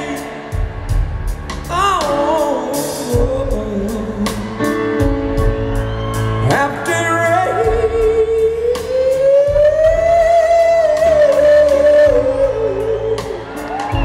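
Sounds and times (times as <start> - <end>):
bass guitar: 0.0 - 14.0
guitar: 0.0 - 14.0
live rock band playing: 0.0 - 14.0
steady drum beat: 0.0 - 14.0.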